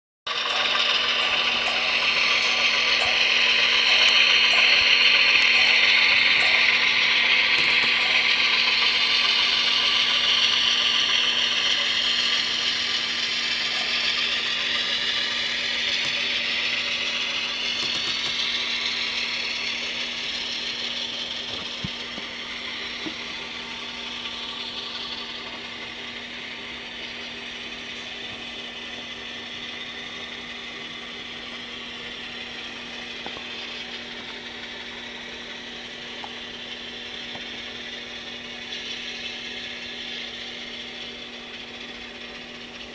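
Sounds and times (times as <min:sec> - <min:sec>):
model train motor whir: 0:00.3 - 0:42.9
train wheels rumbling: 0:00.4 - 0:42.9.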